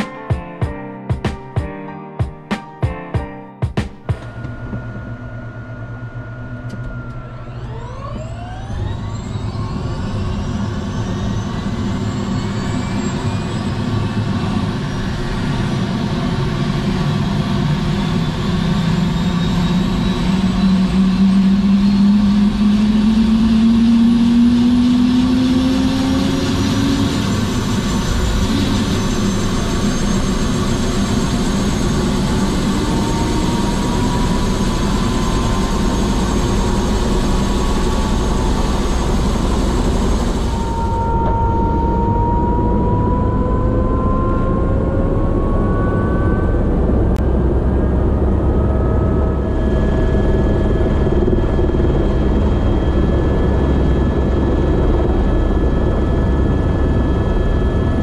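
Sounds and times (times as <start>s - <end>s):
helicopter engine and rotor: 4.0s - 58.0s.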